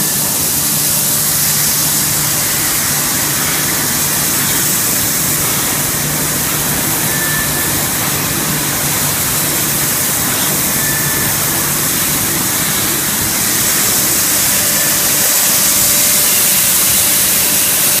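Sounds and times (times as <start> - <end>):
recycling machine running: 0.0 - 18.0.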